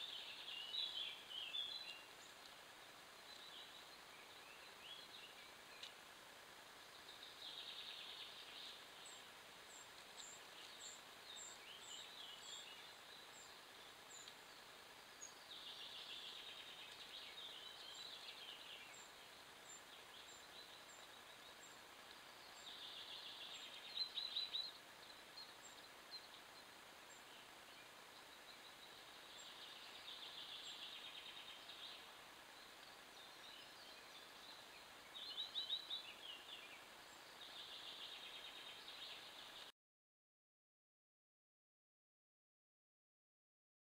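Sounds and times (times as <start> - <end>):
songbird singing faintly: 0.0 - 39.7.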